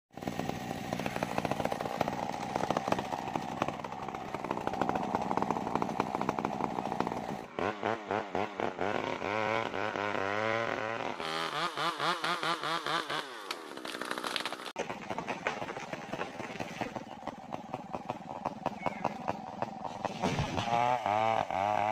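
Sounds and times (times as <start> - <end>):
chainsaw revving and cutting: 0.1 - 21.9.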